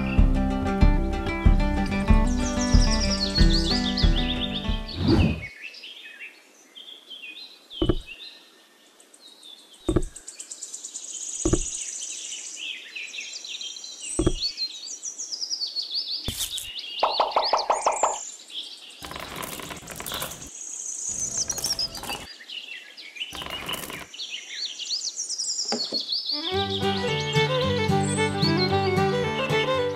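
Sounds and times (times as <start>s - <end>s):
small birds chirping: 1.3s - 29.9s.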